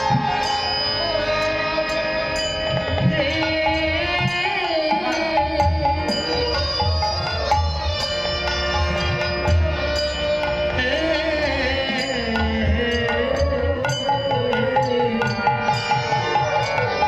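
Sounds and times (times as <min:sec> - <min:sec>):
held drone notes: 0:00.0 - 0:17.0
person singing ornamented melody: 0:00.0 - 0:17.0.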